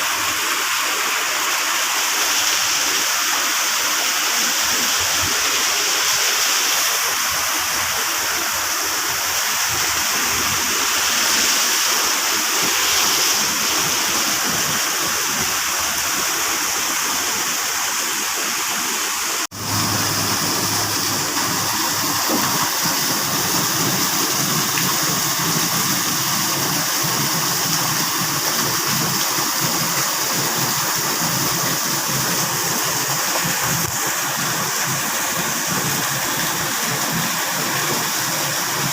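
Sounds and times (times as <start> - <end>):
rainwater rushing and pouring: 0.0 - 38.9.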